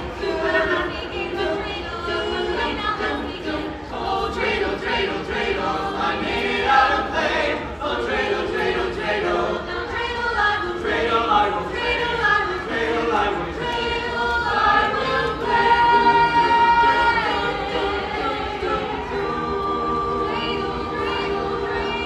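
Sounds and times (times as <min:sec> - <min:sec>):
carolers singing a cappella: 0:00.0 - 0:22.0.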